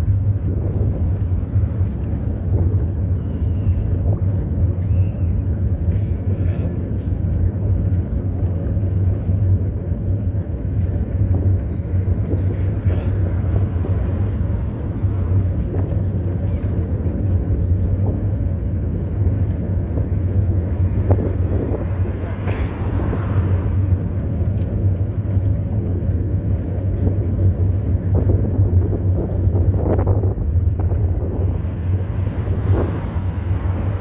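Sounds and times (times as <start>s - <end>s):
road noise: 0.0s - 34.0s
wind rumble on microphone: 0.0s - 34.0s.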